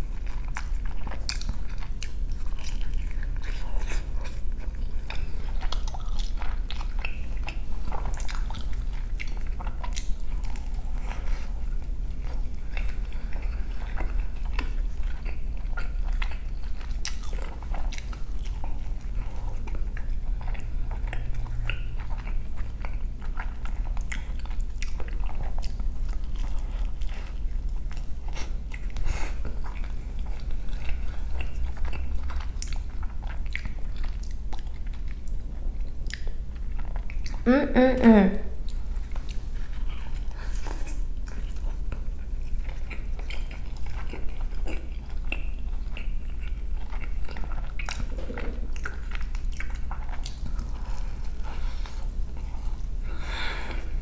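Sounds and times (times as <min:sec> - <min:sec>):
chewing and mouth smacks: 0:00.0 - 0:37.5, 0:38.5 - 0:54.0.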